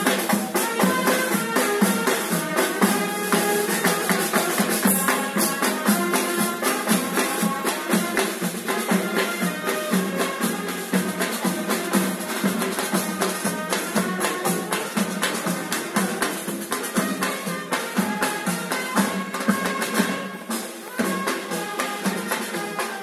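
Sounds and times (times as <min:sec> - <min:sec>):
music with drum beat: 0:00.0 - 0:23.0.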